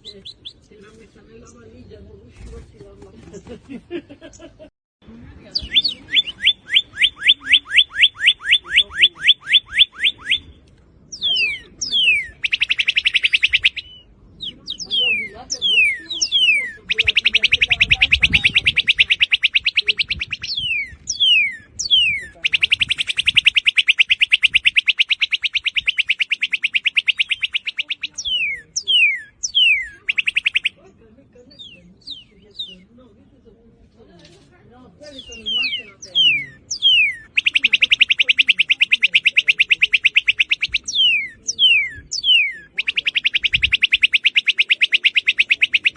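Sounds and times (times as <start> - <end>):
cardinal singing whistles: 5.6 - 30.8, 31.5 - 33.0, 35.1 - 45.9.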